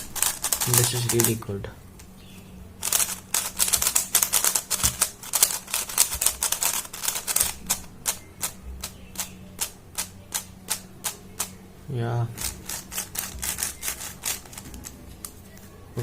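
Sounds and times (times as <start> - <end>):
plastic puzzle cube turning: 0.0 - 1.5, 2.8 - 11.6, 12.4 - 15.7.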